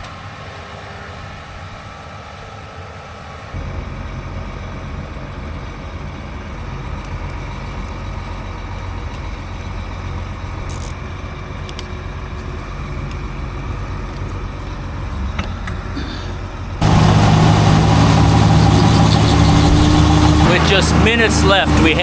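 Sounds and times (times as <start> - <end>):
diesel engine of farm machinery: 0.0 - 22.0.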